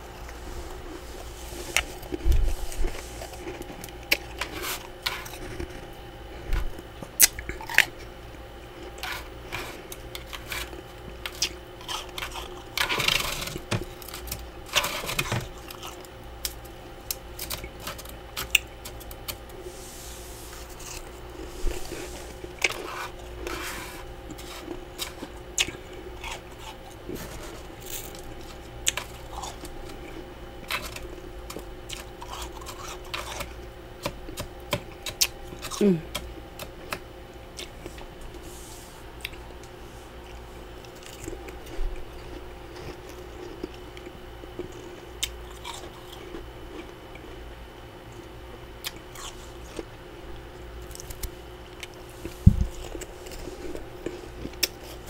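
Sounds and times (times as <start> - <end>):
freezer frost crunching: 0.0 - 38.5, 39.2 - 47.4, 48.8 - 55.0.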